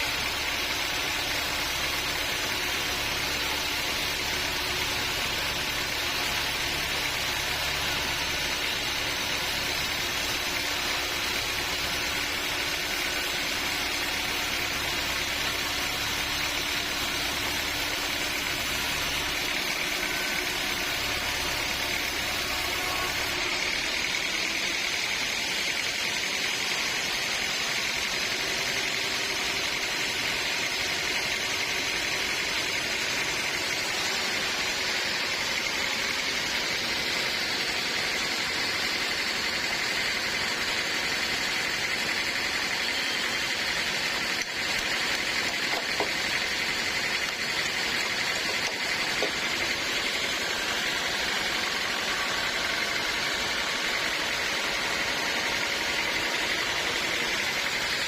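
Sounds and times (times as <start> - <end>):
band sawmill whining: 0.0 - 58.0.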